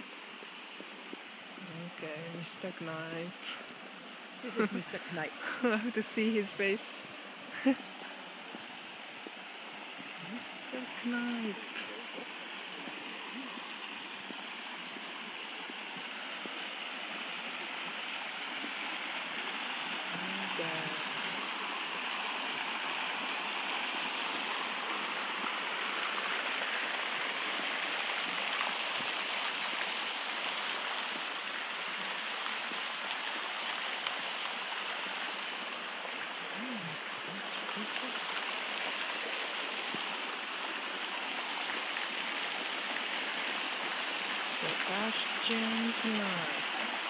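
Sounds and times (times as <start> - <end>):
fountain water splashing: 0.0 - 47.0.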